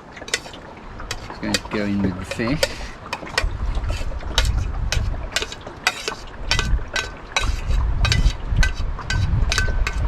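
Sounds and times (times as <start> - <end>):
metal utensils clinking on pot: 0.0 - 10.0.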